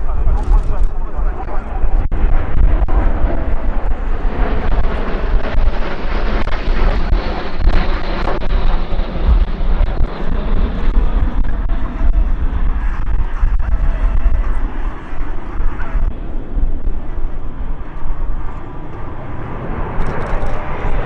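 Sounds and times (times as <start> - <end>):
heavy low rumble: 0.0 - 21.0
jet aircraft flying past: 0.0 - 21.0.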